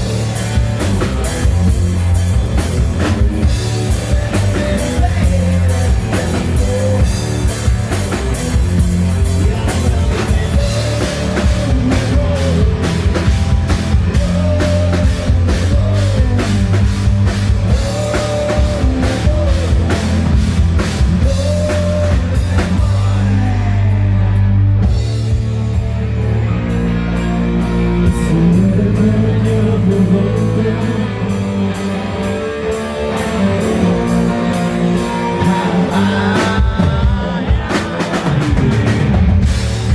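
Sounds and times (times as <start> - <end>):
person singing: 0.0 - 25.0, 25.7 - 39.9
drums: 0.0 - 39.9
hard rock band playing: 0.0 - 39.9.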